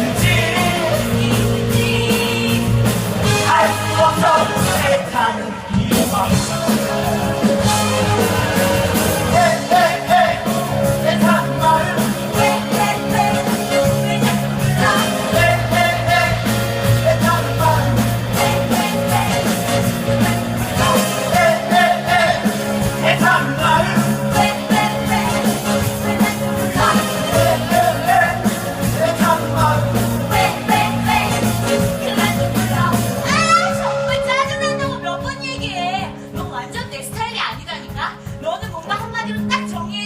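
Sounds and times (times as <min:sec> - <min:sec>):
person singing lead vocal: 0:00.0 - 0:34.2
live rock and roll band: 0:00.0 - 0:40.0.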